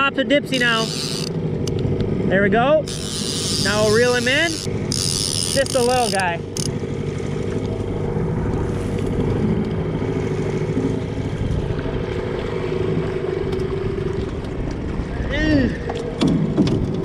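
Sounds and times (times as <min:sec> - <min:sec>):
choppy water: 0:00.0 - 0:17.0
outboard motor running: 0:00.0 - 0:17.0
wind: 0:00.0 - 0:17.0.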